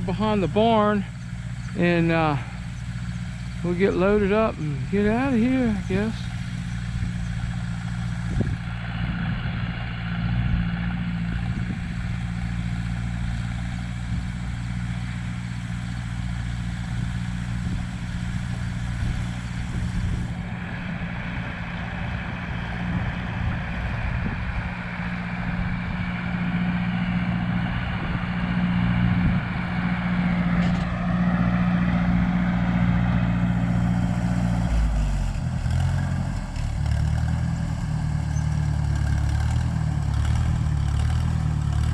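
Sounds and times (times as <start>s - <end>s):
heavy equipment engine running: 0.0s - 41.9s.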